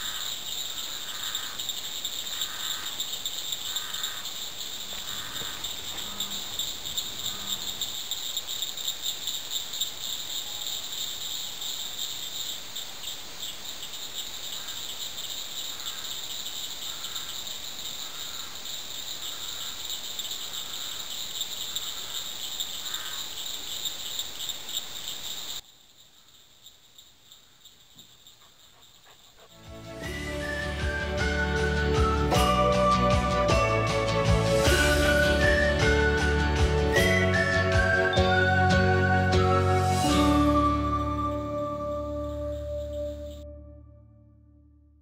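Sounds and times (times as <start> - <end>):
crickets trilling: 0.0 - 43.4
faint lower insect calls: 0.0 - 43.5.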